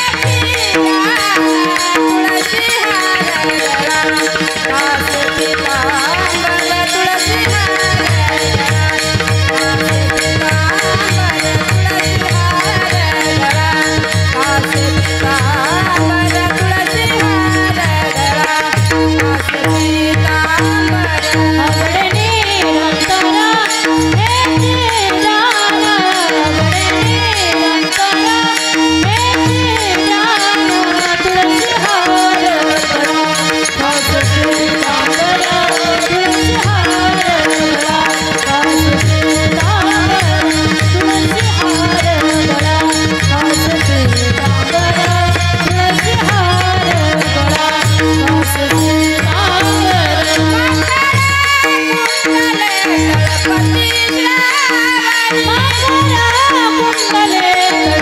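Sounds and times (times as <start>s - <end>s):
hand drum beating rhythm: 0.0s - 58.0s
harmonium held note: 0.0s - 58.0s
voices singing devotional song: 0.0s - 58.0s.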